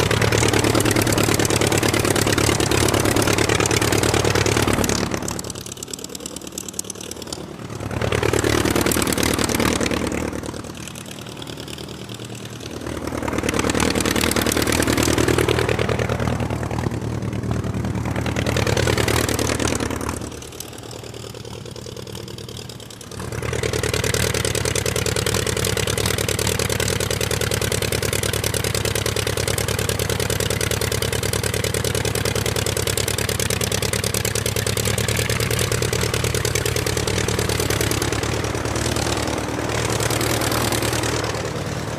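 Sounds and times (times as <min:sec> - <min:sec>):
aircraft engine running: 0:00.0 - 0:41.9.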